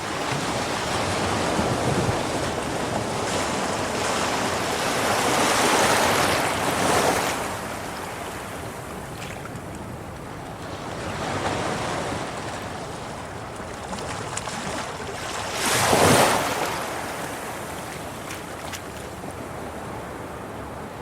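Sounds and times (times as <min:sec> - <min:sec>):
sea waves washing against rocks: 0:00.0 - 0:20.7.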